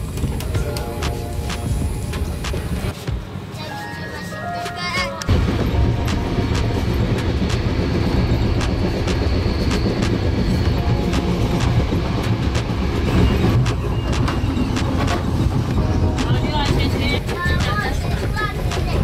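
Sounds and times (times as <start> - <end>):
track clicks and clacks: 0.0 - 3.2, 4.6 - 19.0
train wheels rumbling on rails: 0.0 - 3.7, 4.8 - 19.0.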